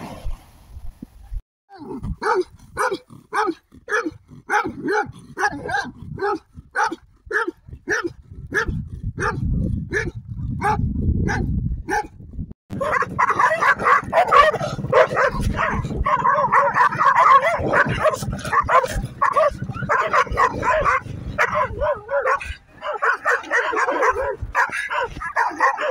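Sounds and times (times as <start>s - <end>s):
dog barking: 2.2s - 25.9s
dog barking rapidly: 2.2s - 25.9s.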